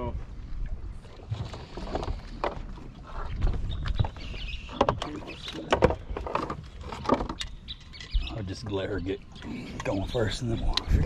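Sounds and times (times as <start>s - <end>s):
wind rumble on microphone: 0.0s - 8.4s, 10.0s - 11.0s.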